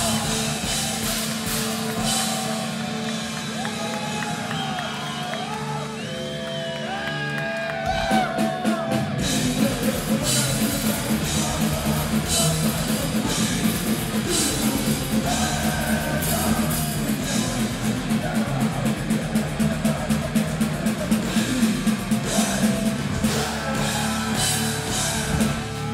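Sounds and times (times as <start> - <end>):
distorted guitars: 0.0 - 25.9
drums: 0.0 - 25.9
live heavy metal band: 0.0 - 25.9.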